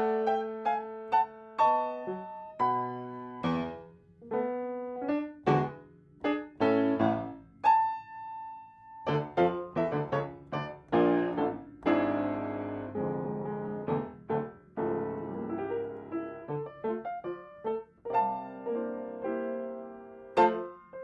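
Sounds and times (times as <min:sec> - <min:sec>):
solo piano music: 0:00.0 - 0:21.0.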